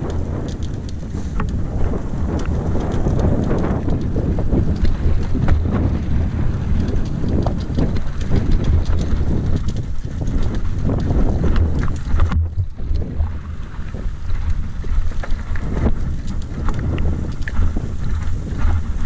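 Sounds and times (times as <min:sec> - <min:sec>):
bike rattling: 0:00.0 - 0:19.0
wind buffeting microphone: 0:00.0 - 0:19.0.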